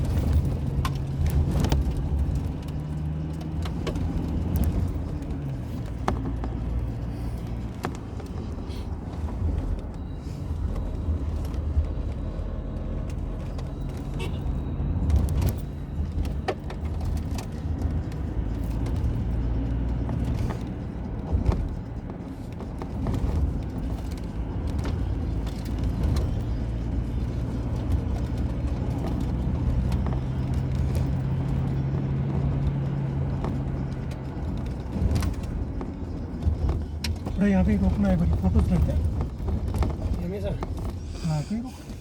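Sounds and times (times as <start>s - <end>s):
car engine and road rumble: 0.0s - 42.0s
knocks and rattles from road: 0.0s - 42.0s.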